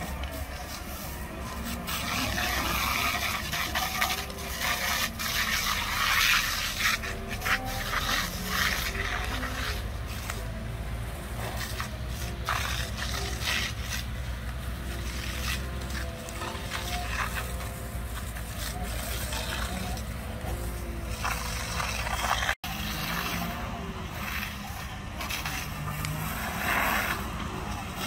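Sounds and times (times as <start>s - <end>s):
diesel engine droning: 0.0s - 28.0s
water jet hissing on hay: 0.0s - 28.0s.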